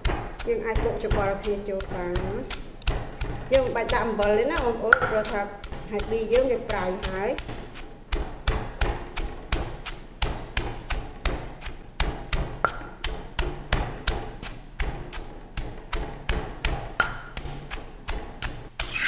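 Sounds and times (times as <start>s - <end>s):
pestle pounding in stone mortar: 0.0s - 19.0s.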